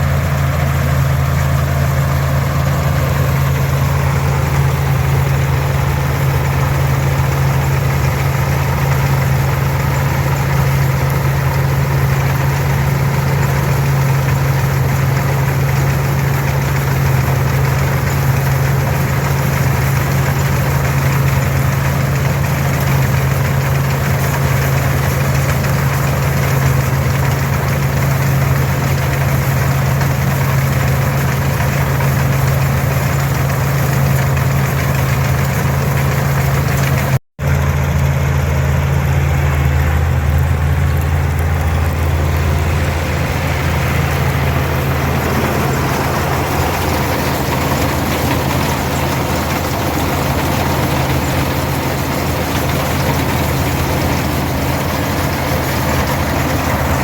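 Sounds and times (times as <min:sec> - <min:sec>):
diesel tractor pulling combine: 0:00.0 - 0:57.0.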